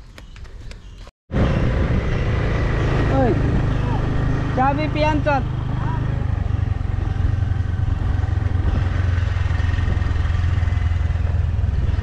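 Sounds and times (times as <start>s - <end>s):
wind rumble on microphone: 1.3s - 12.0s
motor scooter engine running: 1.4s - 12.0s.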